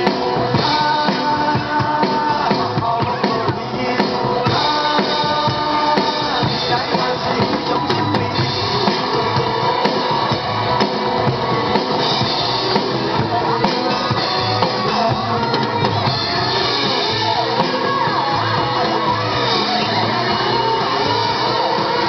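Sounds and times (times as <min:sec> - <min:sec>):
rock music with drums and guitar: 0:00.0 - 0:22.0.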